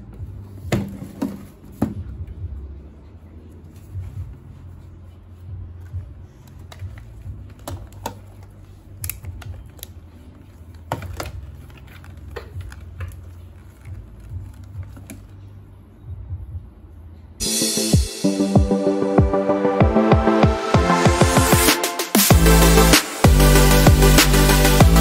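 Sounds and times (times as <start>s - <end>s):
music: 0.0s - 25.0s.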